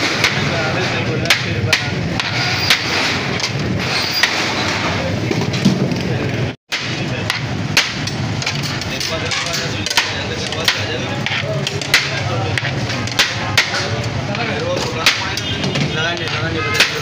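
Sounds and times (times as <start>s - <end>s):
street stall hubbub: 0.0s - 17.0s.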